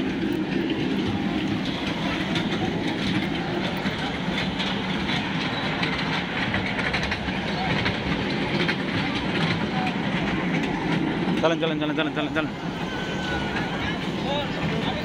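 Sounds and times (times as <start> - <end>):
kiddie train rumbling on track: 0.0 - 15.0.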